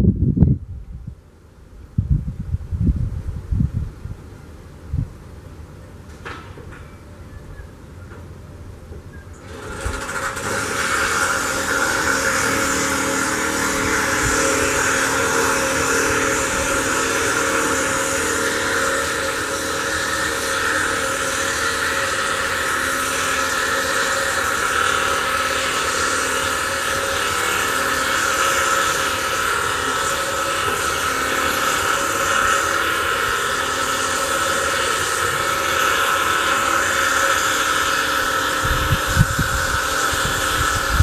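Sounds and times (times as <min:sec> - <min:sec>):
engine humming steadily: 0:04.1 - 0:41.0.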